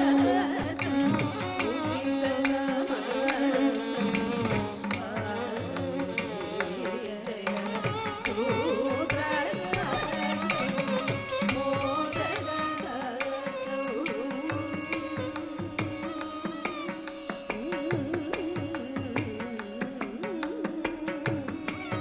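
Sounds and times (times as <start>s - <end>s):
violin melody: 0.0s - 22.0s
woman singing: 0.0s - 22.0s.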